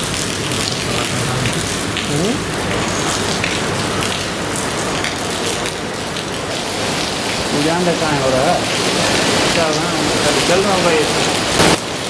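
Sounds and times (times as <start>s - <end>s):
heavy rain on standing water: 0.0s - 12.0s.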